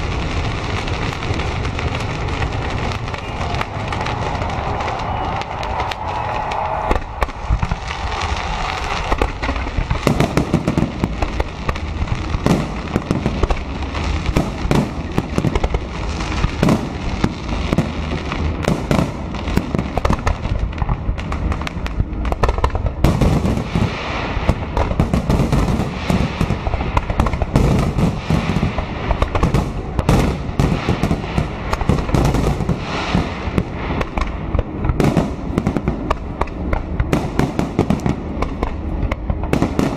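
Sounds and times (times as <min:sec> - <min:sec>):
fireworks barrage of bangs: 0:00.0 - 0:39.9.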